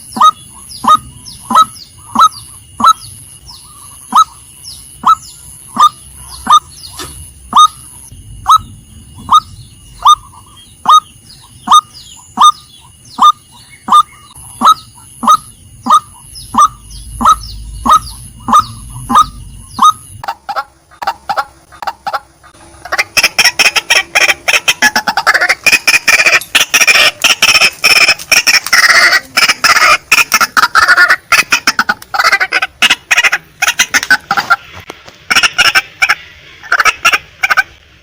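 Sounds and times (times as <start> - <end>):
waterhen calling: 0.0 - 37.8.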